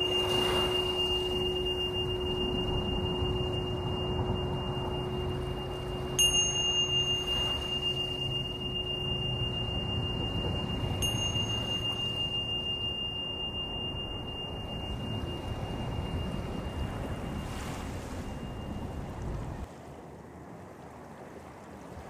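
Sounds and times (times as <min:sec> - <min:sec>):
crystal singing bowl tone: 0:00.0 - 0:19.7
high clear ringing tone: 0:00.0 - 0:19.7
surf rumble: 0:00.0 - 0:22.0
wind: 0:00.0 - 0:22.0.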